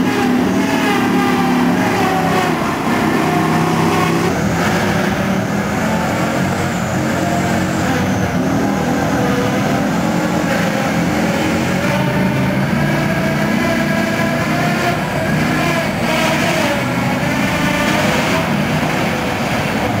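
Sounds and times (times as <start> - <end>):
armoured vehicle engine running: 0.0 - 20.0.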